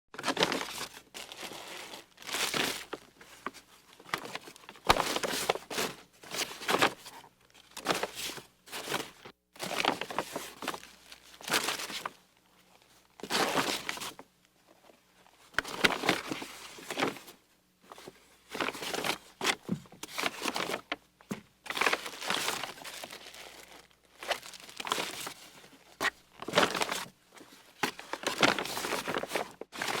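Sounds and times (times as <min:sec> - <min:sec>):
plastic bags rustling: 0:00.2 - 0:07.1, 0:07.7 - 0:14.2, 0:15.5 - 0:30.0.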